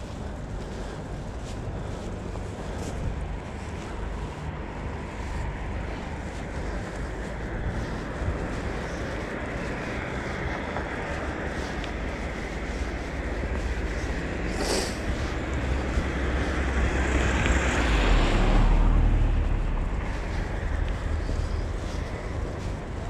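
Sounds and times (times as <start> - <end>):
car passing: 0.0 - 23.0
wind noise on microphone: 0.0 - 23.0.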